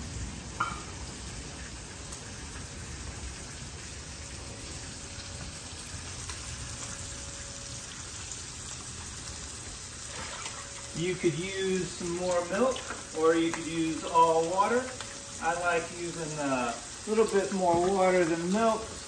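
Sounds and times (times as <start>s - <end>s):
bacon sizzling in a pan: 0.0s - 19.0s.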